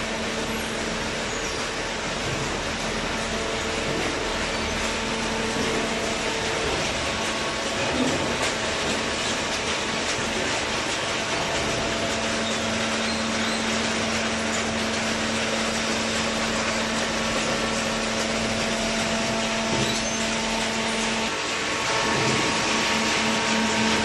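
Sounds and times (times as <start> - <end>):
baler machine running: 0.0 - 24.0.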